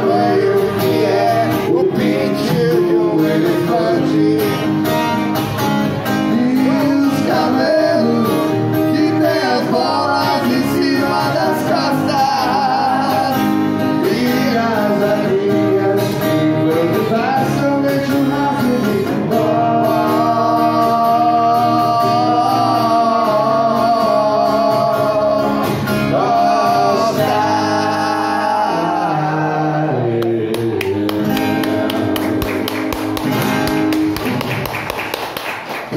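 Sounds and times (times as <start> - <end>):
person singing into microphone: 0.0 - 4.8, 6.2 - 32.7
acoustic guitars strumming: 0.0 - 35.9.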